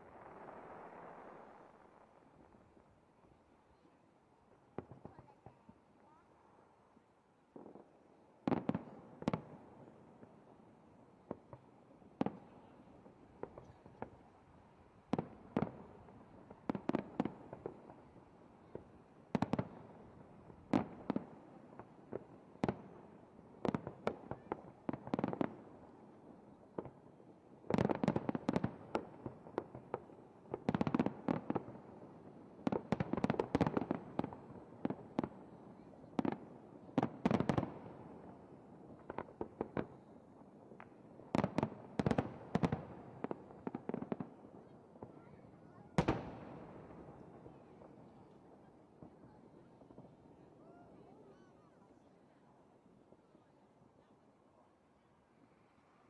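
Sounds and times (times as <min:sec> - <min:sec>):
fireworks bangs and crackles: 0:00.0 - 0:03.1, 0:03.7 - 0:06.2, 0:07.5 - 0:53.6.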